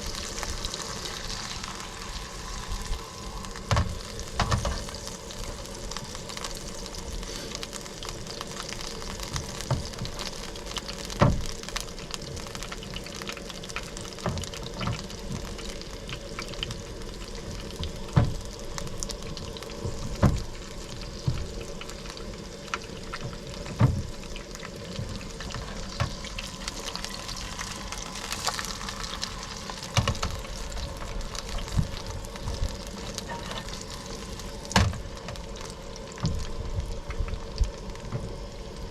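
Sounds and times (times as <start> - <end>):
sharp pops from frying: 0.0 - 38.8
dough sizzling in hot grease: 0.0 - 38.9.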